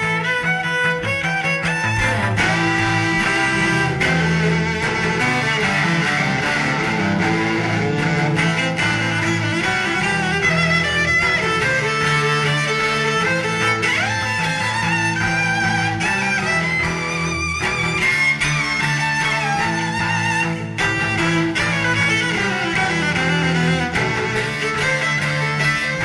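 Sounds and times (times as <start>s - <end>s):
music of long held notes: 0.0s - 26.0s.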